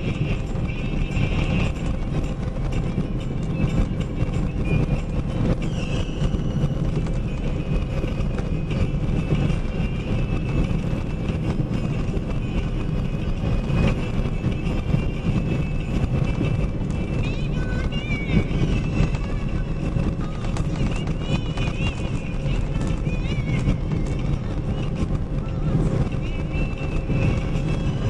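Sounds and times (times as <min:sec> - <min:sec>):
road noise: 0:00.0 - 0:28.0
truck engine rumble: 0:00.0 - 0:28.0.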